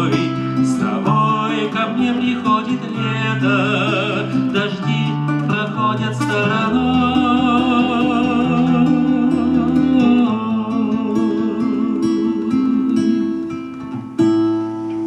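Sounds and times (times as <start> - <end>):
acoustic guitar: 0.0 - 15.0
person singing with vibrato: 0.0 - 15.0.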